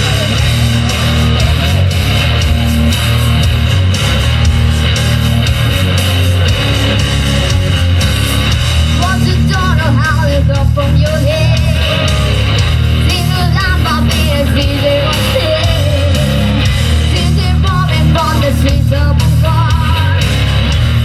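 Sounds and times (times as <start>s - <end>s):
electric guitar melody: 0.0s - 21.0s
heavy metal band playing: 0.0s - 21.0s.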